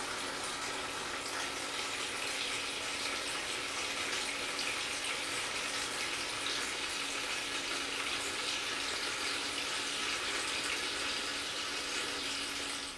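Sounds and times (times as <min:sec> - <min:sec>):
toilet flushing: 0:00.0 - 0:12.9.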